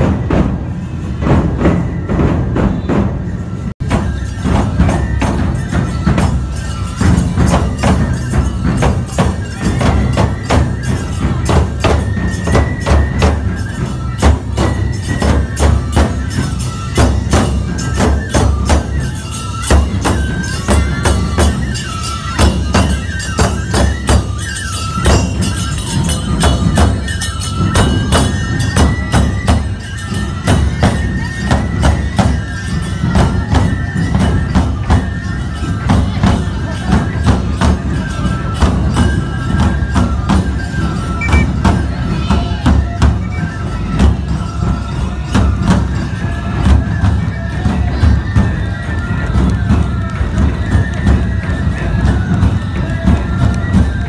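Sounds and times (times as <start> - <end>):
bamboo flute melody: 0.0 - 54.0
taiko drums: 0.0 - 54.0
hand cymbals striking: 3.5 - 54.0.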